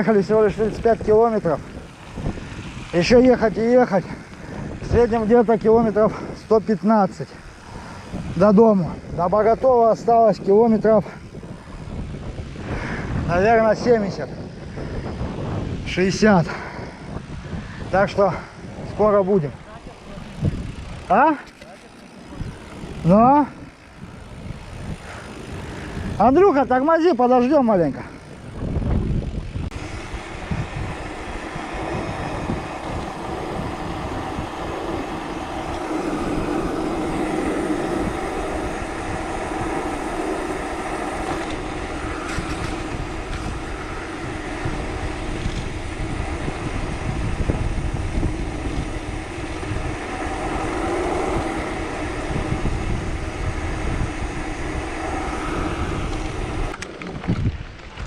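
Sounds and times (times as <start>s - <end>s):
steady droning hum: 0.0s - 58.0s
wind buffeting microphone: 0.0s - 58.0s.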